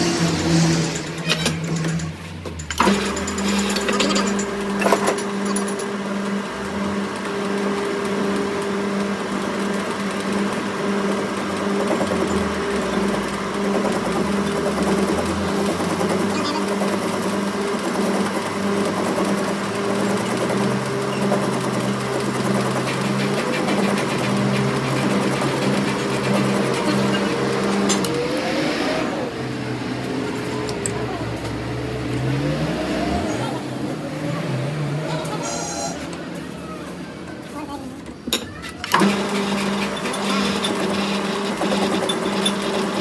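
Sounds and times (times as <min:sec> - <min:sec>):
machine motor humming: 0:00.0 - 0:38.2, 0:38.8 - 0:43.0.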